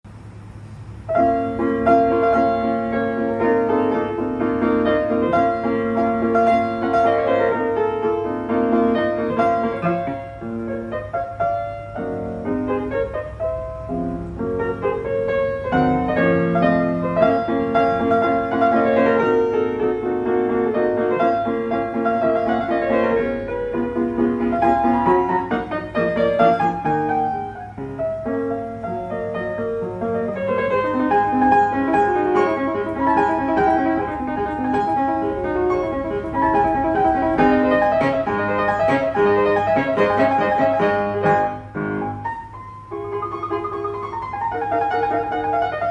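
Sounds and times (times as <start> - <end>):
grand piano playing: 0.4 - 45.9.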